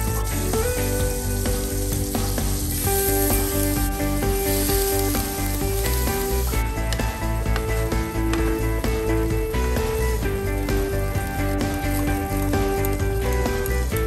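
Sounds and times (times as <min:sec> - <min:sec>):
background music of held notes: 0:00.0 - 0:14.0
meat sizzling in a frying pan: 0:00.0 - 0:14.0
wooden spatula stirring: 0:00.0 - 0:14.0.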